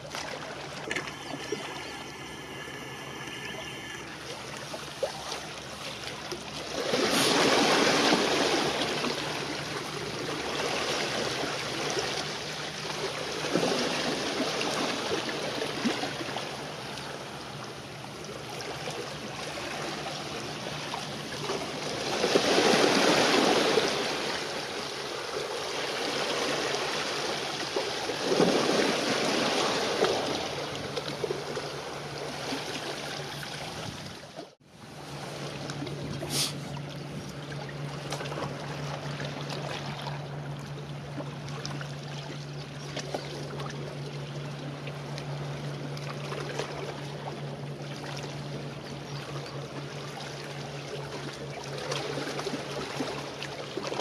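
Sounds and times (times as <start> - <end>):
small waves lapping at shore: 0.0 - 54.0.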